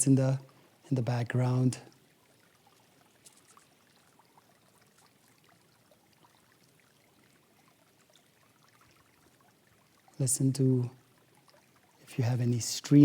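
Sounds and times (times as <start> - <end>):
stream babbling: 0.0 - 13.0.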